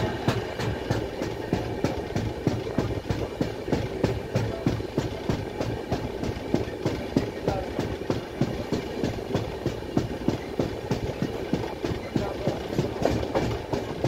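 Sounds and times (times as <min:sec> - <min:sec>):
fast regular wheel knocking: 0:00.0 - 0:14.0
train wheels clattering on track: 0:00.0 - 0:14.0.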